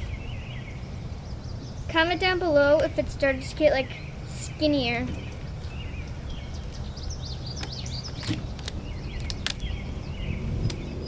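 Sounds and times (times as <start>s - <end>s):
low background rumble: 0.0s - 11.0s
small birds chirping: 0.0s - 11.0s.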